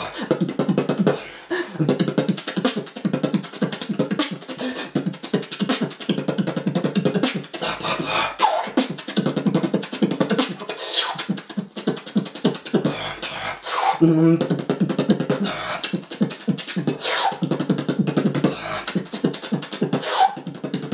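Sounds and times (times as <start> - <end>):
person beatboxing: 0.0 - 20.9.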